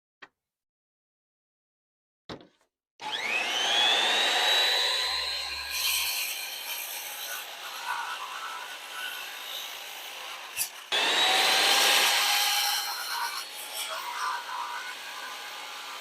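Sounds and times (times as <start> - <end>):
power tool motor whining: 3.0 - 16.0.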